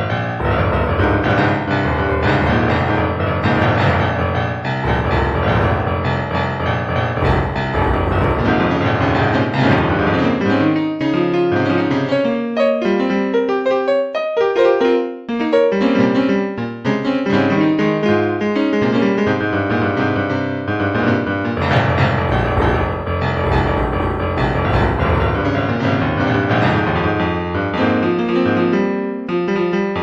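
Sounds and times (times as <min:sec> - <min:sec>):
piano instrumental music: 0:00.0 - 0:30.0.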